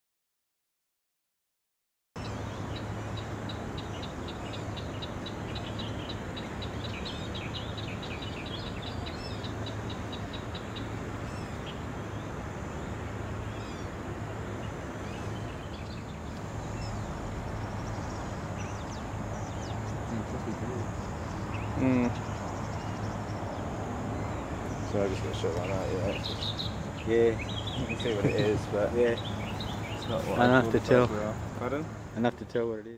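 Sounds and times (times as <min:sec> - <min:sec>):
low rumble and hiss: 0:02.2 - 0:32.9
small birds chirping: 0:02.2 - 0:32.9.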